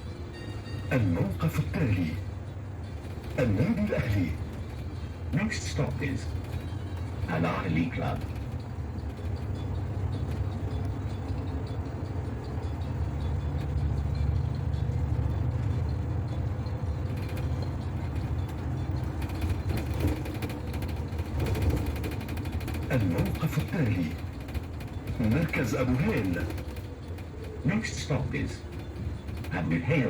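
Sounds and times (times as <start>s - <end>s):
bus engine and road rumble: 0.0s - 30.0s
light clicks and rattles: 2.4s - 30.0s.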